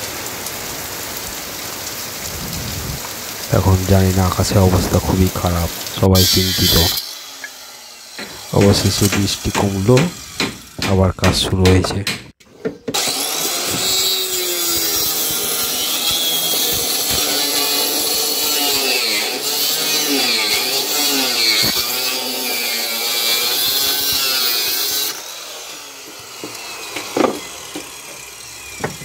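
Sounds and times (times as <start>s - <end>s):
angle grinder cutting: 3.4s - 29.0s.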